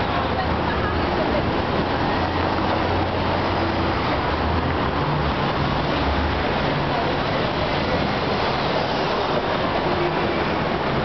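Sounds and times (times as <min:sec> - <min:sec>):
crowd chatter: 0:00.0 - 0:11.0
road traffic running past: 0:00.0 - 0:11.0.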